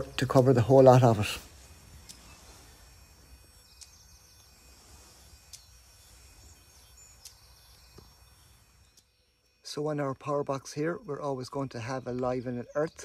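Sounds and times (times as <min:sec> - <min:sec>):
electric fence energiser ticking: 0:00.0 - 0:13.0
faint birdsong: 0:00.0 - 0:13.0.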